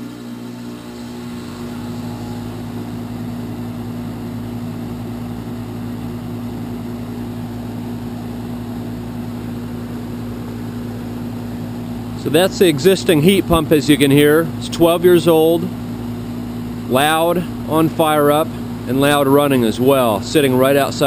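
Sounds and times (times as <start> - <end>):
deep electrical hum: 0.0 - 21.0
fan rushing noise: 0.0 - 21.0.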